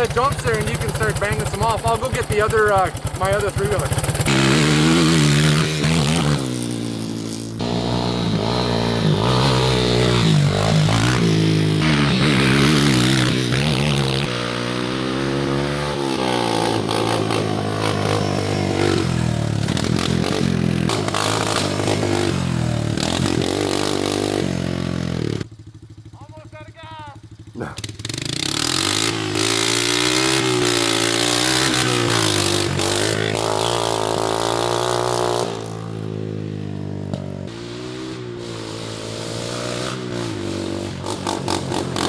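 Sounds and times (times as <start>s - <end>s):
atv engine revving: 0.0s - 42.0s.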